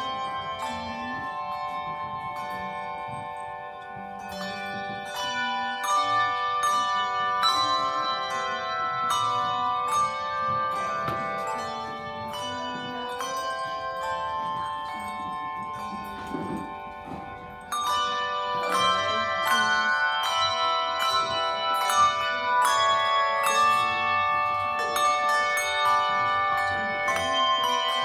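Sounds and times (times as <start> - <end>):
handbell choir ringing: 0.0 - 28.0.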